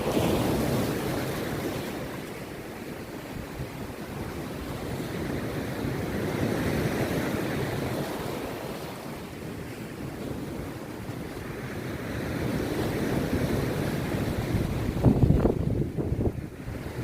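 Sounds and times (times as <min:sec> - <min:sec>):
sea surf breaking: 0:00.0 - 0:17.0.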